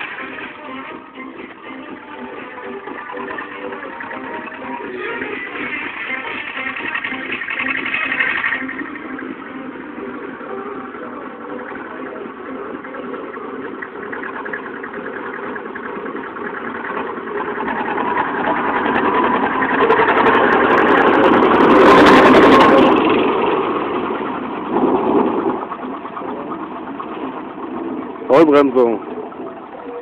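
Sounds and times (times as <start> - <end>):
tractor diesel engine passing: 0.0 - 30.0.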